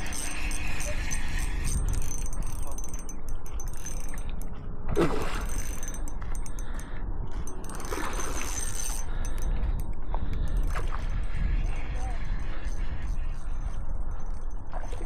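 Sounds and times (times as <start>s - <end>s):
fishing reel gears clicking: 0.0s - 4.5s, 5.2s - 14.6s
wind rumble on microphone: 0.0s - 15.0s.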